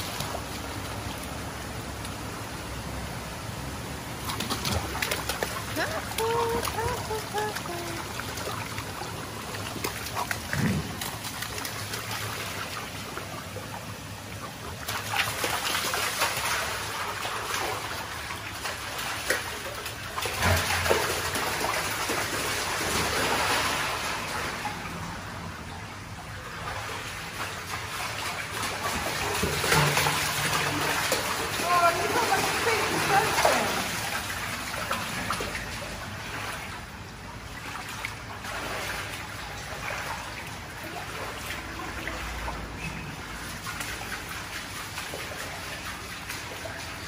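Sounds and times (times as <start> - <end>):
trickle of flowing water: 0.0 - 47.0
dogs splashing through water: 3.9 - 25.2, 26.3 - 47.0.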